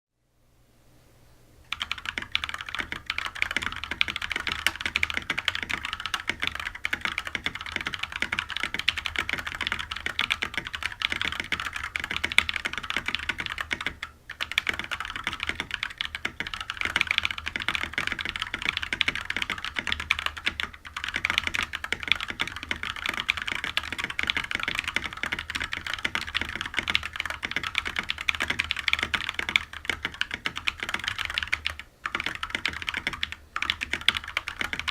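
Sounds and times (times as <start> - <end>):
fast mechanical keyboard typing: 1.7 - 34.9.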